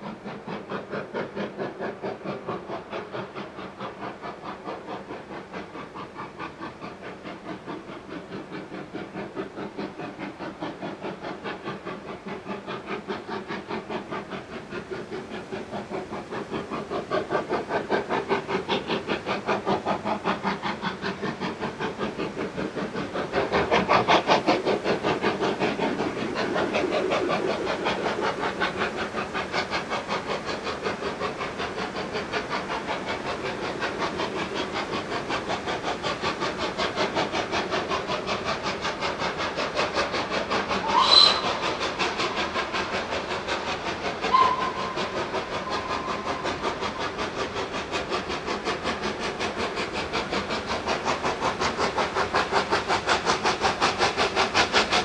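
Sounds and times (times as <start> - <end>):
steam locomotive chuffing: 0.0 - 55.0.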